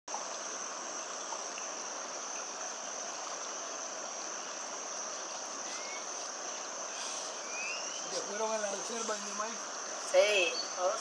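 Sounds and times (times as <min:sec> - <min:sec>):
high-pitched insect drone: 0:00.3 - 0:11.0.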